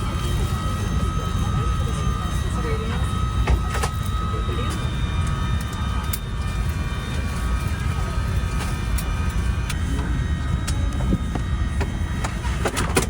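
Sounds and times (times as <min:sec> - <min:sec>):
air-conditioning rumble: 0:00.0 - 0:13.0
faint high whine: 0:00.0 - 0:13.0.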